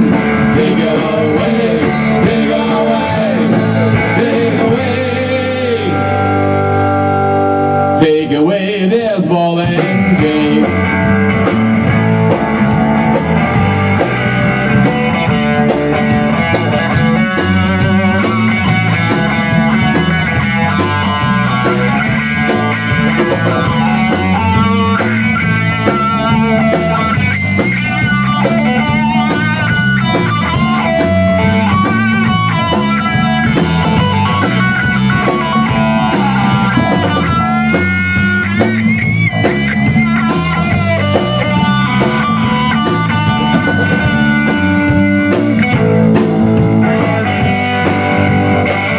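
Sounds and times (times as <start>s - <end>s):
drum kit steady beat: 0.0s - 6.8s, 9.1s - 48.9s
bass guitar: 0.0s - 48.9s
electric guitar lead with bent notes: 0.0s - 48.9s.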